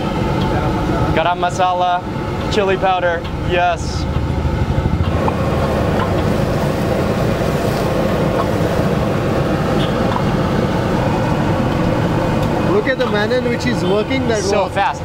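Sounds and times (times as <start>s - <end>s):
gas burner roaring: 0.0s - 15.0s.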